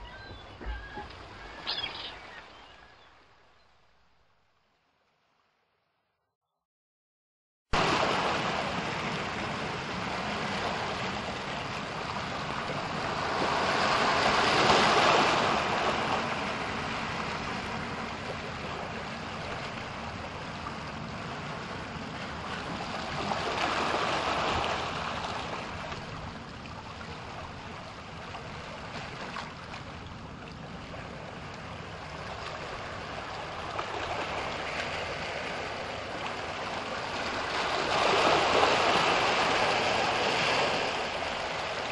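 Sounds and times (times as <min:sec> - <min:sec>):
ocean waves breaking: 0:00.0 - 0:03.6, 0:07.8 - 0:41.9.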